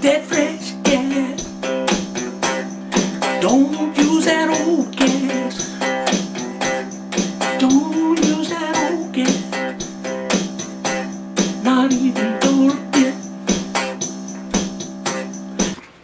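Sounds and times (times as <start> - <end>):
plucked guitar notes: 0.0 - 15.8.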